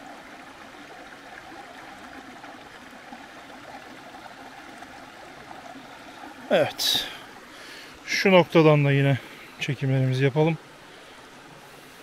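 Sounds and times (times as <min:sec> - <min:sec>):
waterfall and stream rushing: 0:00.0 - 0:12.0.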